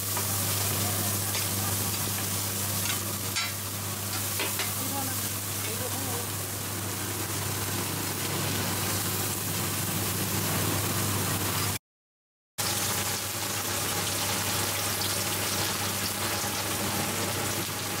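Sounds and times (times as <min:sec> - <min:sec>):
oil sizzling in a pan: 0:00.0 - 0:11.8, 0:12.6 - 0:18.0.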